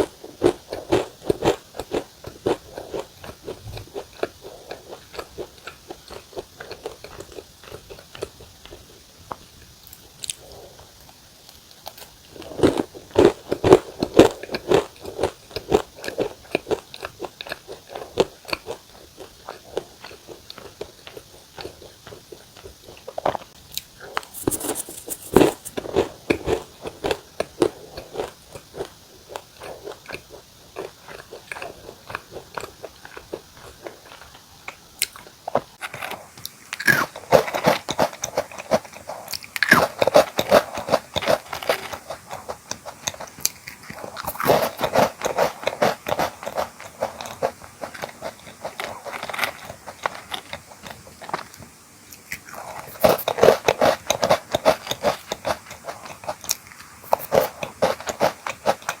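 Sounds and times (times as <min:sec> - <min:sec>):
crunching and chewing cookies: 0:00.0 - 0:59.0.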